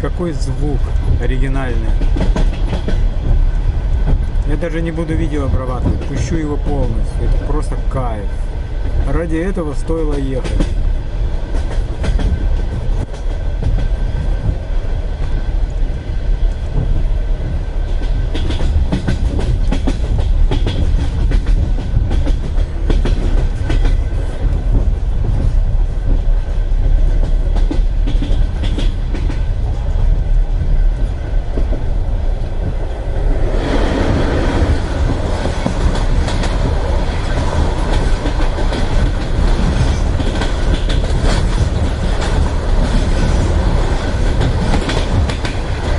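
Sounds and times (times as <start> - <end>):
train running rumble: 0.0 - 45.9
train wheels clicking over rail joints: 0.0 - 45.9.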